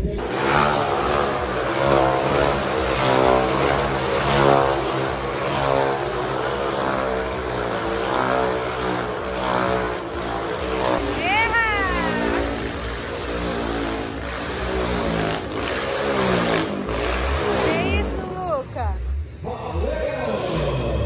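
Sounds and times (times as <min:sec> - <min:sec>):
motorcycle engines rising and falling: 0:00.0 - 0:21.0.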